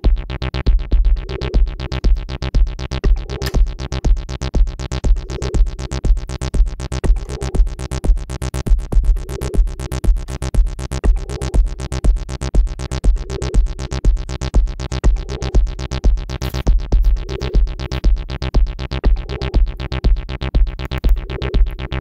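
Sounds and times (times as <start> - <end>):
electronic music with heavy bass: 0.0 - 22.0.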